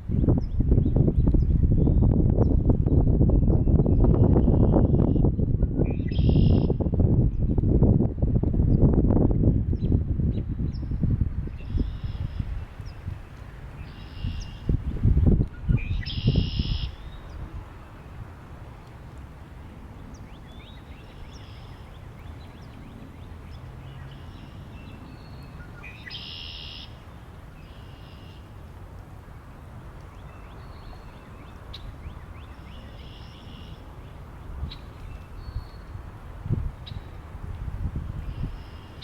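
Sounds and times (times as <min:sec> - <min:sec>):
wind rumble: 0:00.0 - 0:39.0.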